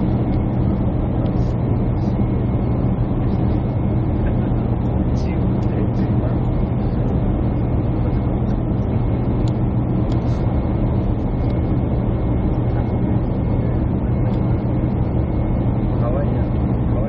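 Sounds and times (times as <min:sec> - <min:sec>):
jet airliner cabin drone: 0:00.0 - 0:17.0.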